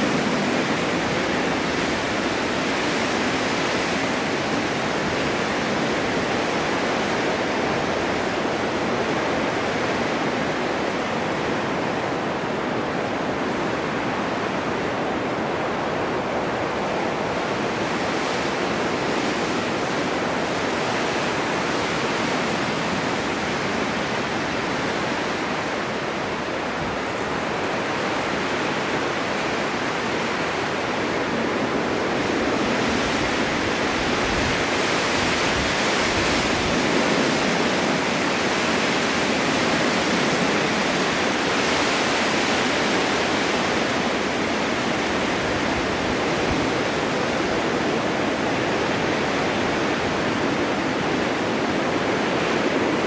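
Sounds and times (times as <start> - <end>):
strong wind blowing: 0.0 - 53.0.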